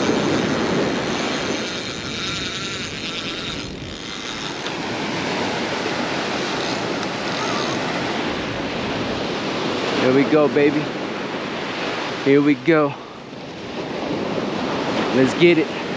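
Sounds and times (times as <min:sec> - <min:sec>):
wind blowing on microphone: 0:00.0 - 0:15.9.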